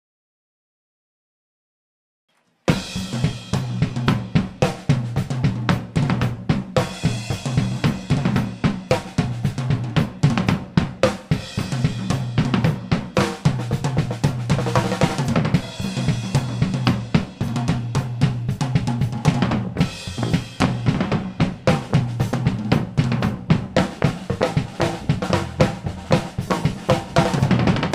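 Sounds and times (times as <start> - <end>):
drum kit playing a beat: 2.7 - 27.9.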